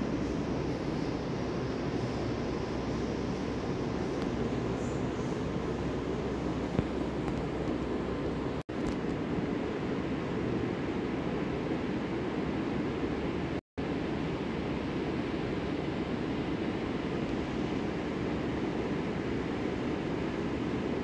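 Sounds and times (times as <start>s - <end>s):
low rushing background noise: 0.0s - 21.0s.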